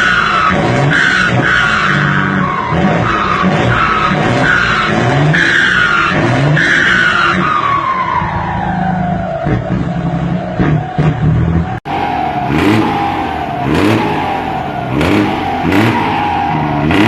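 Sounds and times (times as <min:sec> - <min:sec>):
truck diesel engine under load: 0:00.0 - 0:17.0.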